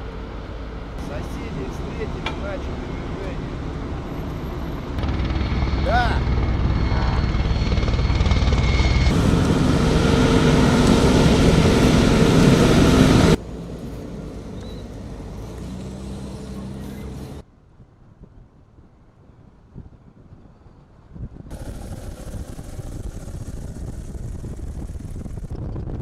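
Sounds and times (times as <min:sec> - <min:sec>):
helicopters flying close: 0:01.0 - 0:17.4, 0:21.5 - 0:26.0.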